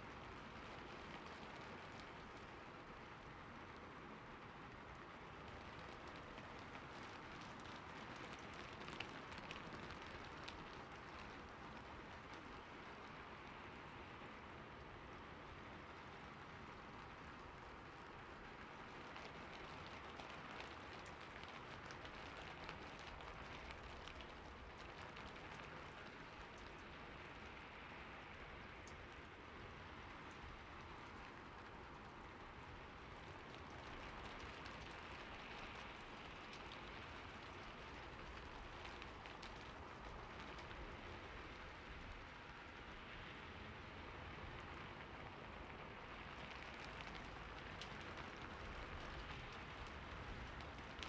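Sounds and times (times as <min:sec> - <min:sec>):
rain falling on a roof: 0:00.0 - 0:51.0.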